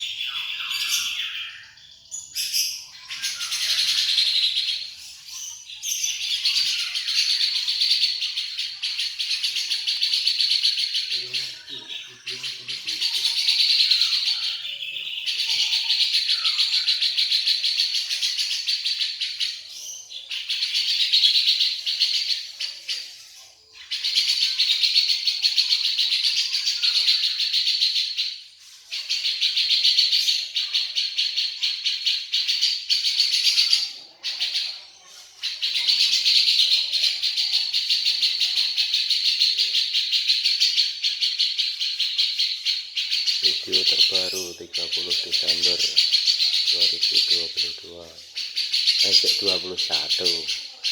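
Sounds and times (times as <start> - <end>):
bulbul singing rattling chatter: 0.0 - 50.9.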